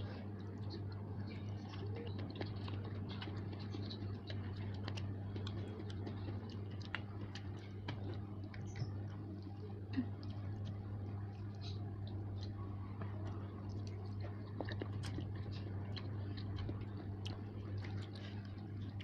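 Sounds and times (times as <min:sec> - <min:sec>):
low hum: 0:00.0 - 0:19.0
person chewing noodles: 0:00.0 - 0:19.0.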